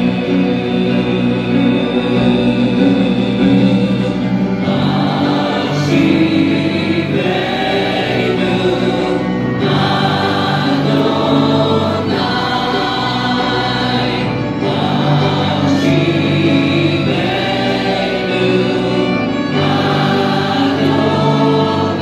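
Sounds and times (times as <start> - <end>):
congregation singing: 0.0 - 22.0
musical accompaniment: 0.0 - 22.0.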